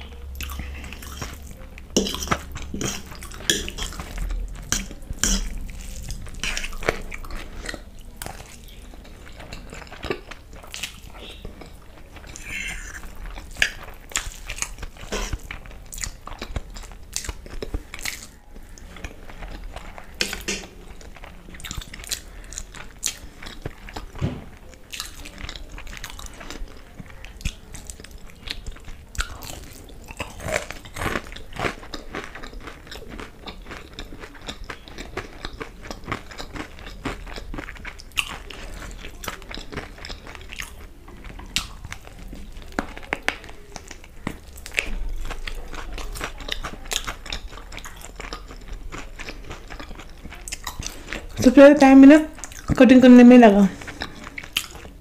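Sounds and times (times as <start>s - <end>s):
crunchy chewing: 0.0s - 51.4s, 52.3s - 52.8s, 53.7s - 55.0s.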